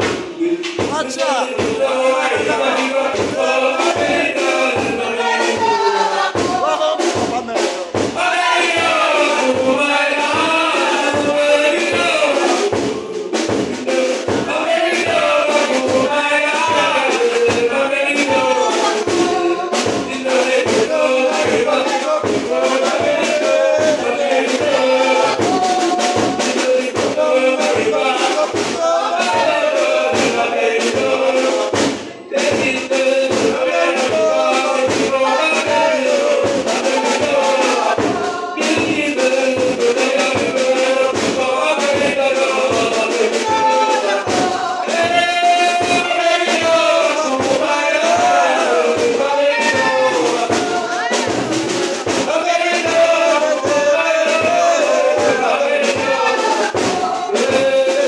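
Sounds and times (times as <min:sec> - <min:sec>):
man singing into a microphone: 0:00.0 - 0:05.6, 0:06.4 - 0:58.0
steady drumbeat: 0:00.0 - 0:58.0
voices singing along: 0:00.0 - 0:58.0.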